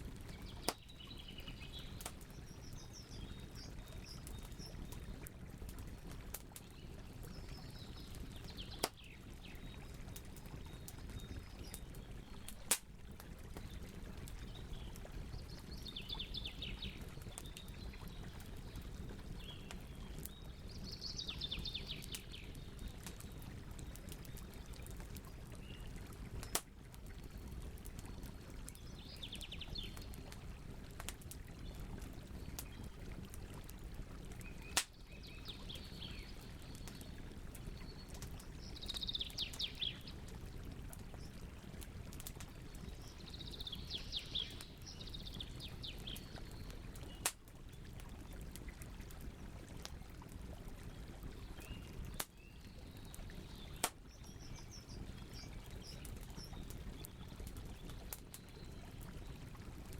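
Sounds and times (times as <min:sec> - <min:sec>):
campfire burning: 0:00.0 - 0:59.9
campfire popping: 0:00.0 - 0:59.9.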